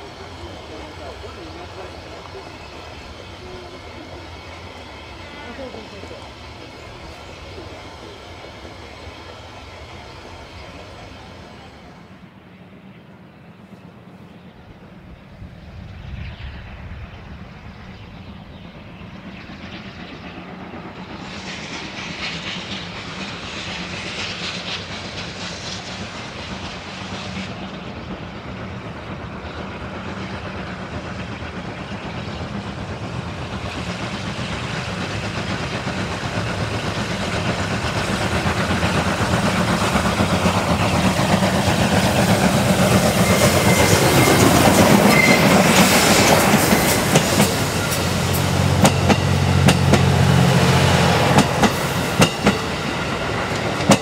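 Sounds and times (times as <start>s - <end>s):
steam locomotive hauling train: 0.0s - 54.0s.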